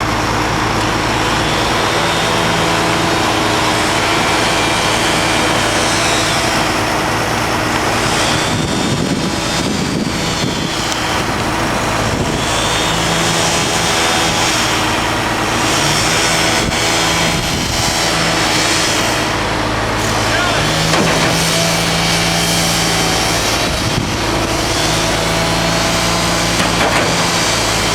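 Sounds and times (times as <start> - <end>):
construction machinery engine running: 0.0 - 27.9.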